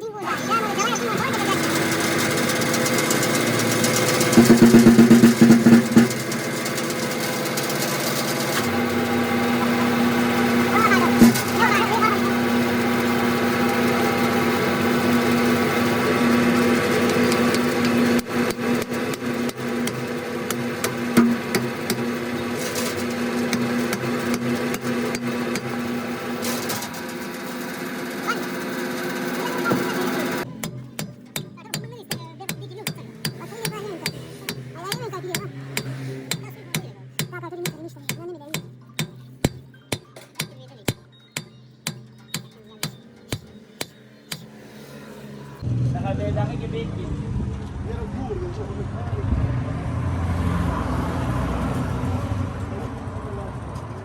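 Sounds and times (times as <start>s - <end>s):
engine running steadily: 0.0s - 54.0s
rapid knocking pulses: 0.2s - 45.6s.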